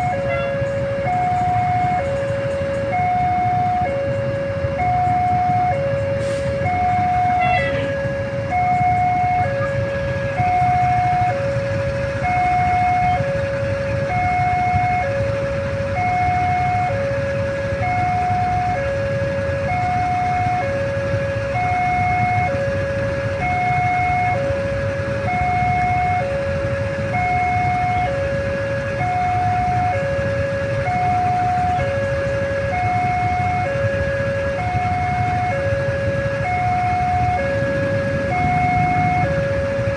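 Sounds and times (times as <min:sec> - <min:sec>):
level crossing two-tone alarm: 0:00.0 - 0:39.9
vehicle engines idling: 0:00.0 - 0:39.9.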